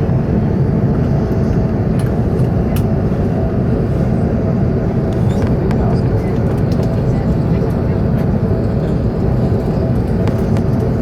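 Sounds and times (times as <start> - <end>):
airflow and engine rumble in cabin: 0.0 - 11.0.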